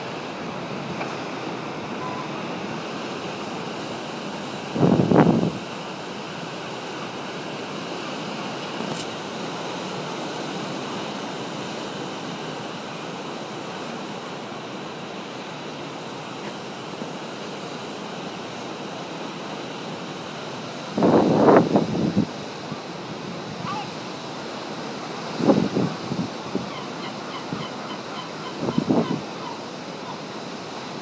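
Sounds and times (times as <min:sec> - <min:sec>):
surf washing over rocks: 0:00.0 - 0:31.0.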